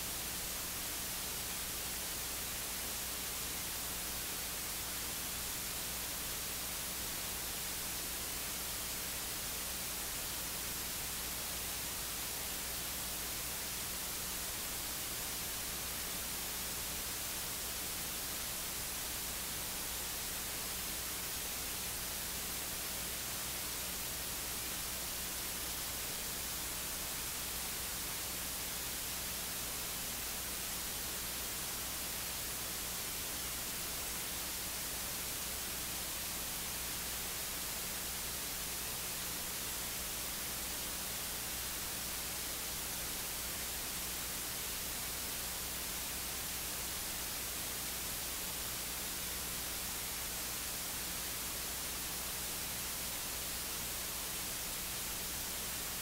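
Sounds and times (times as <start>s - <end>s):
electronic static hiss: 0.0s - 56.0s.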